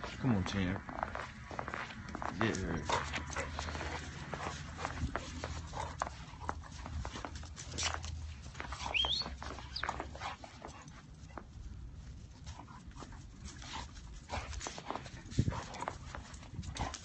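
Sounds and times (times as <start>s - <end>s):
paws scuffling in snow: 0.0s - 17.0s.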